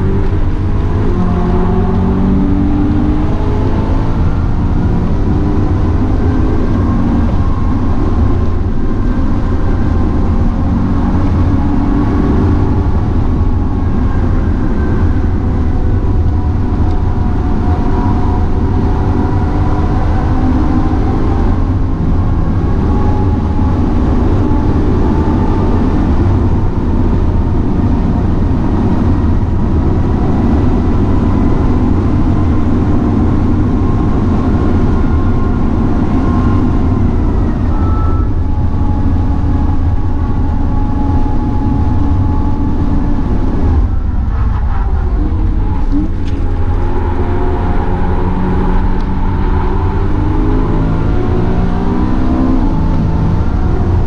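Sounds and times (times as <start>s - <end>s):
car engine revving: 0.0s - 54.0s
road and tyre rumble: 0.0s - 54.0s.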